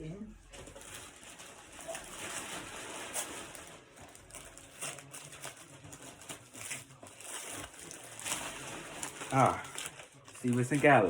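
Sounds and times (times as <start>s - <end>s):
wrapping paper rustling: 0.3s - 11.0s.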